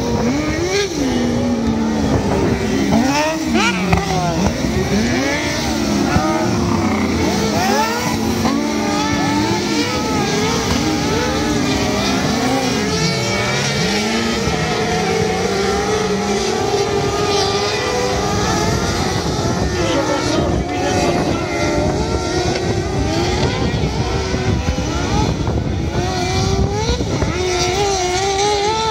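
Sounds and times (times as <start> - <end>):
buggy engines racing: 0.0 - 28.9.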